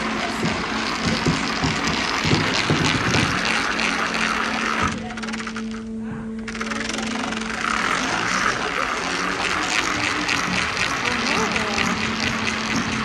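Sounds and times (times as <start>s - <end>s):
spinning disc whirring and rattling: 0.0s - 13.0s.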